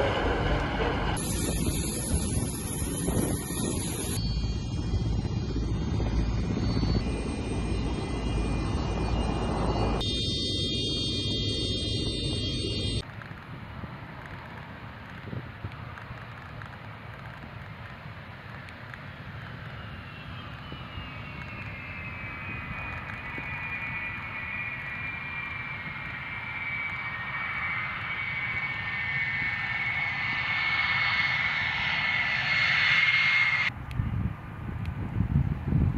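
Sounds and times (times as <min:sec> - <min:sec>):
high turbine whine: 0:00.0 - 0:13.4, 0:18.0 - 0:34.0
jet engine rumble: 0:00.0 - 0:35.9.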